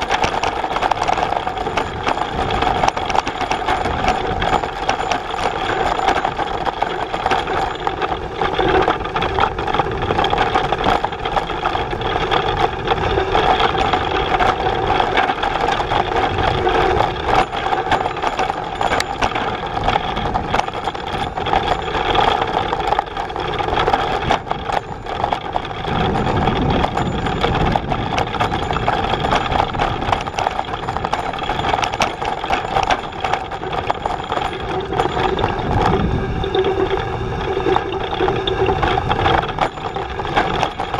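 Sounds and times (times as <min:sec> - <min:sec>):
bike frame rattling: 0:00.0 - 0:40.9
mechanical hum: 0:00.0 - 0:40.9
tyres rumbling on gravel: 0:00.0 - 0:40.9.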